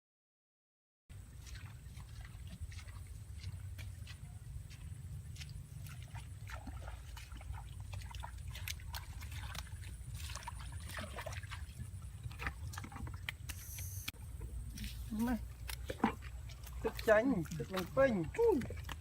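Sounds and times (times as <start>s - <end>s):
water sloshing and splashing: 1.1s - 19.0s.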